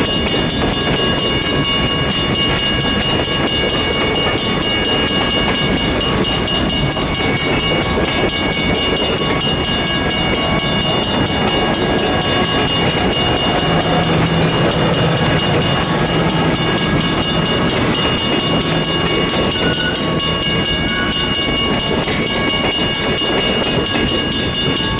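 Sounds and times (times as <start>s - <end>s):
crossing bells ringing: 0.0s - 24.9s
train wheels rumbling on rails: 0.0s - 24.9s.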